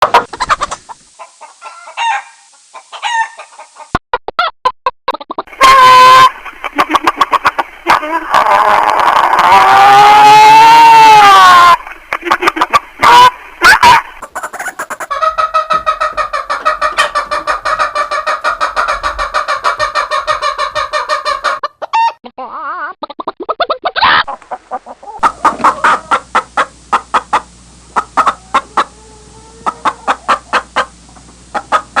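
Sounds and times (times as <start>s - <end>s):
hens clucking: 0.0s - 4.5s, 5.1s - 32.0s.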